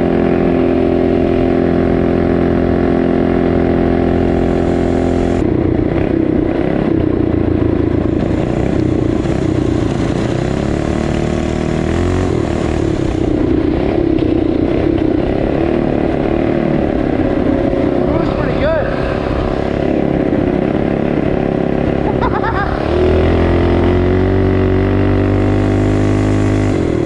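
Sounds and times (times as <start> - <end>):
motorbike engine revving: 0.0 - 27.0.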